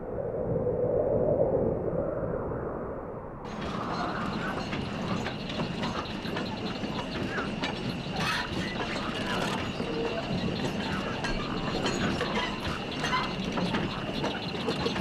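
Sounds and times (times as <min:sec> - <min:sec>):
steady high whine: 0:02.9 - 0:15.0.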